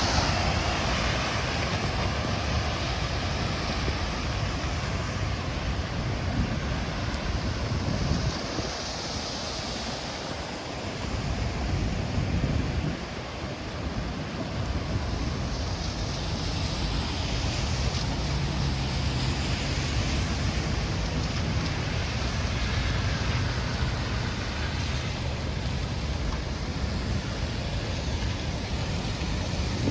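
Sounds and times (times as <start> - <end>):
low rumble of street traffic: 0.0 - 29.9
wind buffeting microphone: 0.0 - 29.9.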